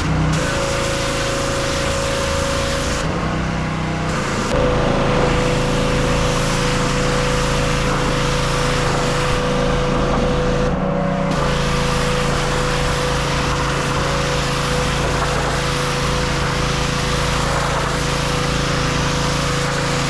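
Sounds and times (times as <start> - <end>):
high-pressure spray hissing: 0.0 - 3.1, 4.1 - 20.0
pressure washer engine running: 0.0 - 20.0.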